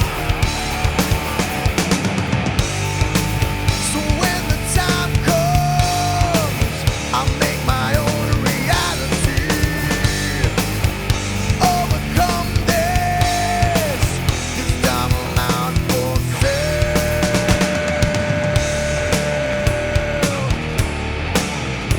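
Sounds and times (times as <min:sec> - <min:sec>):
nu metal band playing: 0:00.0 - 0:21.9
steady drum hits: 0:00.0 - 0:21.9.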